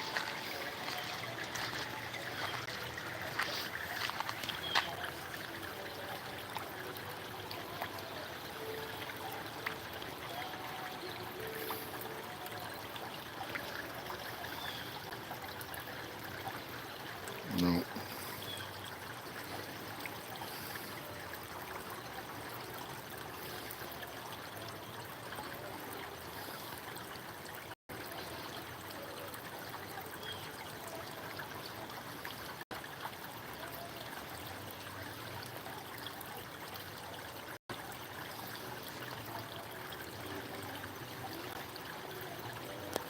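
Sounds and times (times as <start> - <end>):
running water rushing: 0.0 - 43.0.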